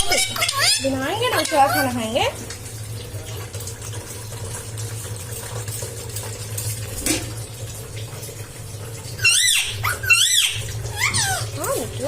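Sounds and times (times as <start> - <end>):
water running: 0.0 - 12.0.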